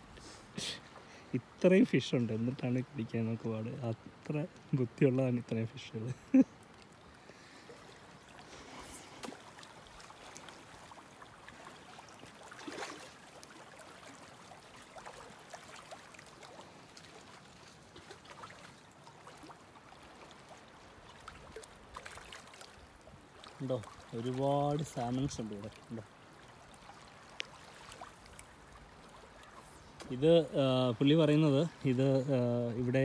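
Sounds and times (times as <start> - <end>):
river water rushing and trickling: 0.0 - 33.0.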